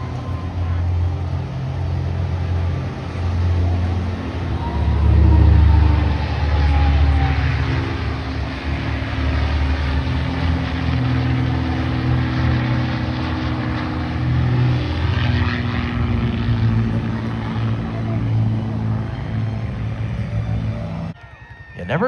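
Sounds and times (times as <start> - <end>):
propeller plane flying over: 0.0 - 22.0.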